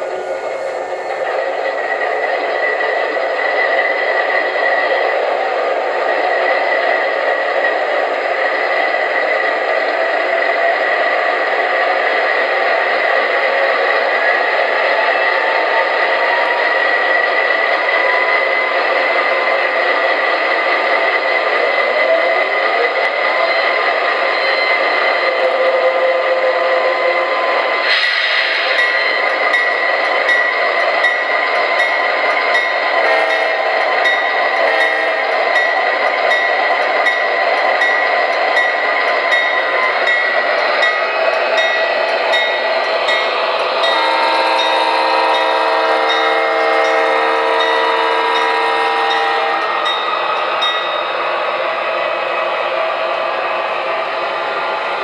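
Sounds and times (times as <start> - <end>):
model train whirring and rattling: 0.0 - 55.0.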